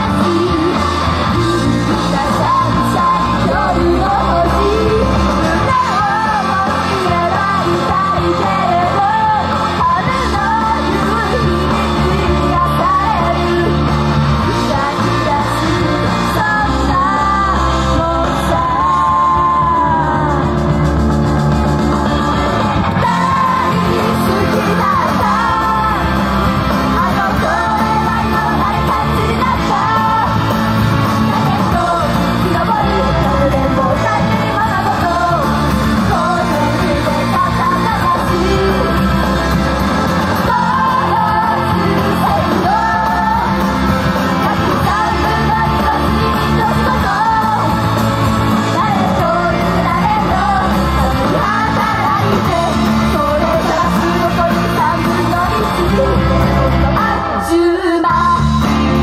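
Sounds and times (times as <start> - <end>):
group singing rock song: 0.0 - 59.0
live band music: 0.0 - 59.0.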